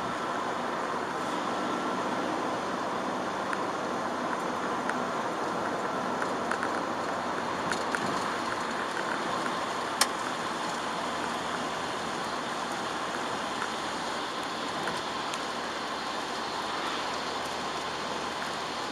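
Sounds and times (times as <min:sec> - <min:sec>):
rain and tyres on wet road: 0:00.0 - 0:18.9
ticks of raindrops: 0:03.4 - 0:18.9.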